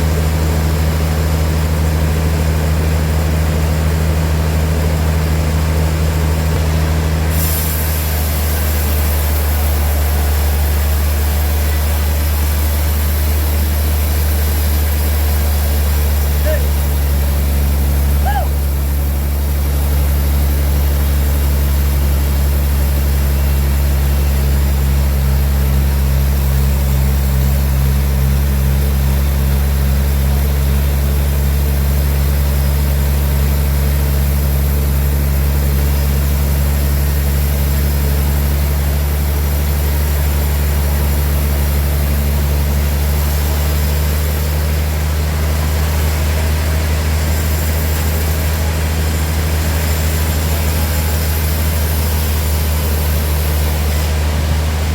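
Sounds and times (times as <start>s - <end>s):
sawmill engine humming: 0.0s - 54.9s.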